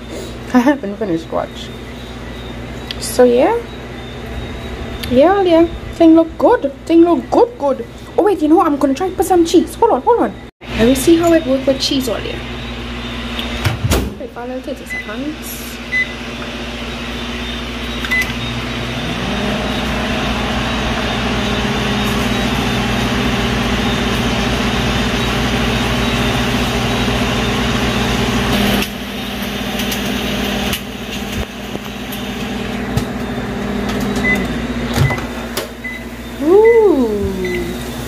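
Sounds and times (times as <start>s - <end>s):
microwave beeps: 0.0s - 13.8s, 14.4s - 38.0s
microwave oven humming: 0.0s - 38.0s.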